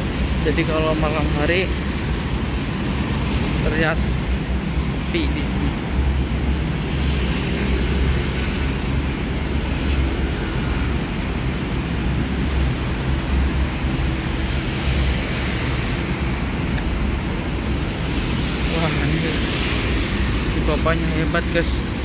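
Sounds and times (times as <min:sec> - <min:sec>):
traffic hum on highway: 0:00.0 - 0:22.0.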